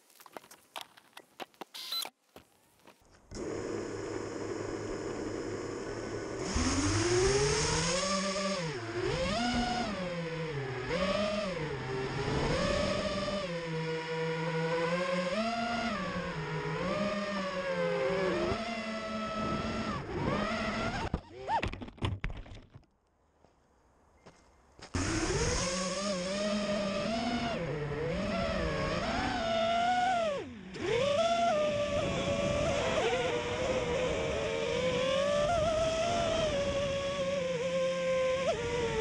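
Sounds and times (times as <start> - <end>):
drone motors whining: 1.7 - 2.1, 3.3 - 21.7, 25.0 - 39.0.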